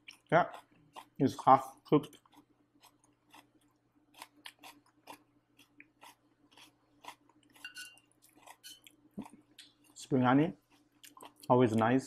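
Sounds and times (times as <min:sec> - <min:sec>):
faint chewing: 0:00.0 - 0:12.0
low steady hum: 0:00.0 - 0:12.0.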